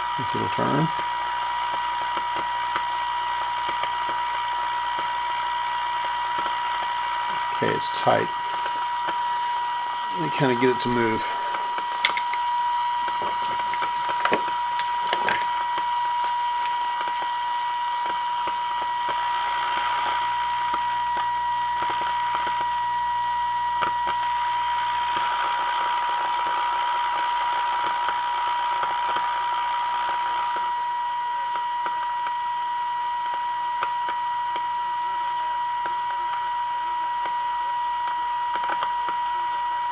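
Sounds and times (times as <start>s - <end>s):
radio hiss: 0.0s - 39.9s
radio test tone: 0.0s - 39.9s.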